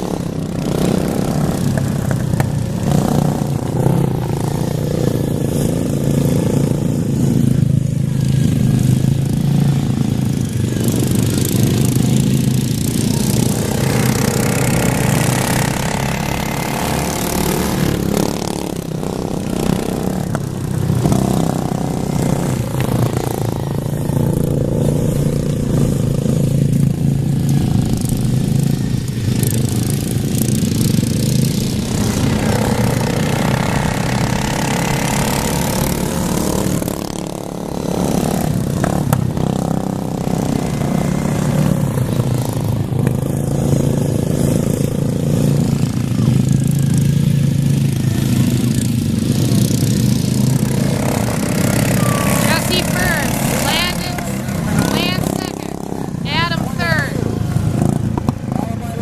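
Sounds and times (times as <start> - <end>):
lawn mower engines droning: 0.0 - 59.0.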